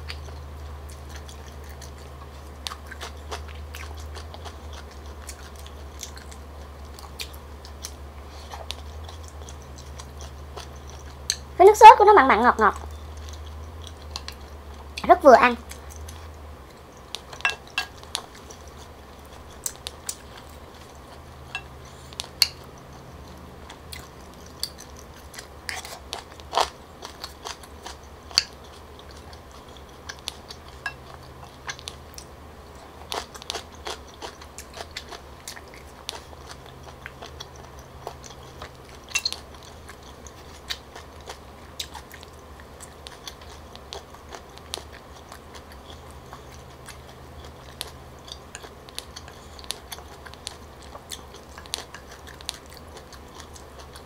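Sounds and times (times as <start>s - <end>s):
person chewing: 0.0s - 11.6s, 12.7s - 54.0s.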